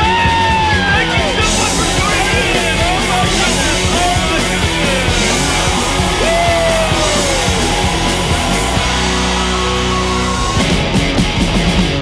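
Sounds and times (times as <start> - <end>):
loud rock band music: 0.0 - 12.0.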